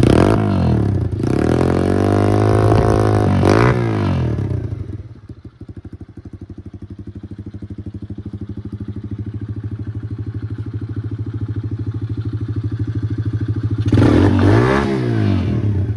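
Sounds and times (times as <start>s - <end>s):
quad bike engine idling and revving: 0.0s - 15.9s.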